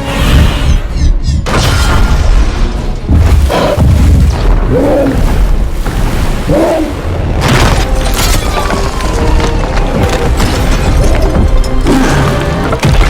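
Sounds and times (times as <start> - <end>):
orchestral film score: 0.0 - 13.0
low rumbling destruction: 1.4 - 13.0.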